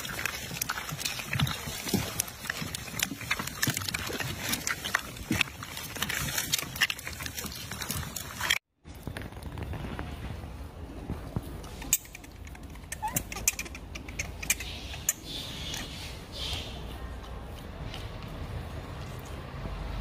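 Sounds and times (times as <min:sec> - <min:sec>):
plastic cups crackling and clicking: 0:00.0 - 0:19.9.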